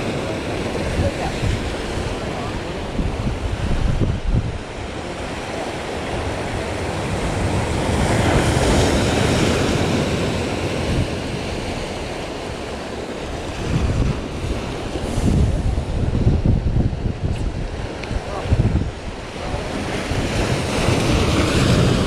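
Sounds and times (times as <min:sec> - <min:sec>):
sea waves washing: 0:00.0 - 0:22.0
wind buffeting microphone: 0:00.0 - 0:22.0.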